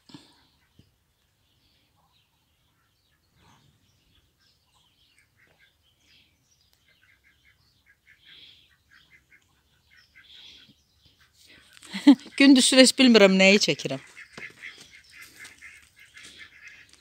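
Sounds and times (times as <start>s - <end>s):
faint bird chirping: 0.1s - 17.0s.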